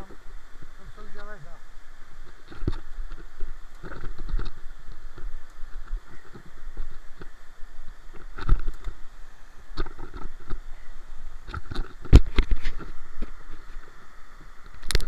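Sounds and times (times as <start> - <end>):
river water rushing: 0.0 - 14.8
leafy branches rustling: 0.0 - 15.0.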